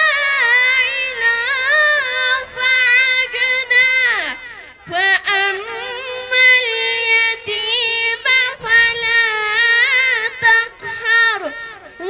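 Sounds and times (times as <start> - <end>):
boy chanting melodically: 0.0 - 12.0.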